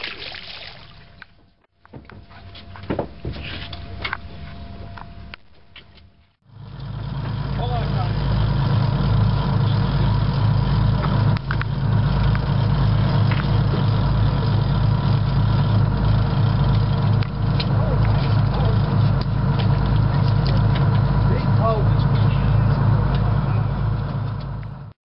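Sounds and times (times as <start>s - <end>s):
boat engine droning: 1.0s - 25.0s.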